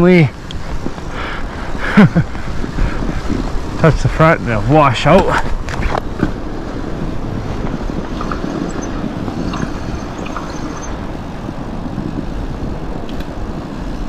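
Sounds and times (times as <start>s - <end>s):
bike tyres rolling through snow: 0.0s - 14.0s
wind noise on microphone: 0.0s - 14.0s.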